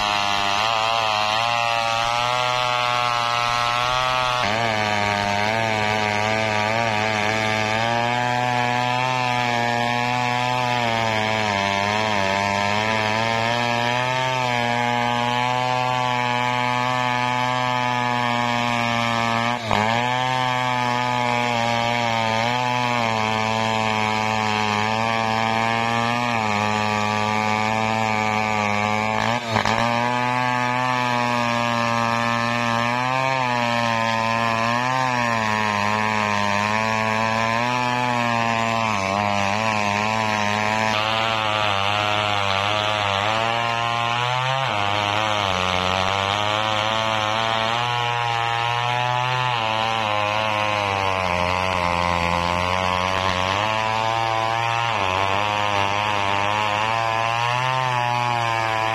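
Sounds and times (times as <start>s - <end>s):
engine-driven saw cutting wood: 0.0s - 58.9s.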